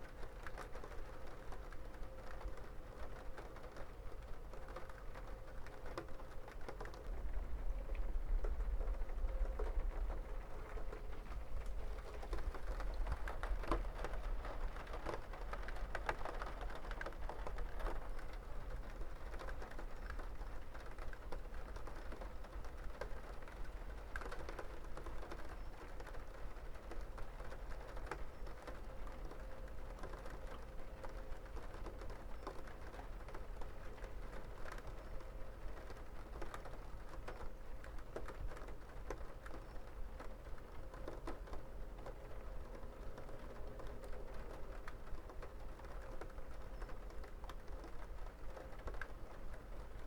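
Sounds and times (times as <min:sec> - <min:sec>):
raindrops ticking on hard surface: 0:00.0 - 0:50.0
soft rain patter: 0:00.0 - 0:50.0.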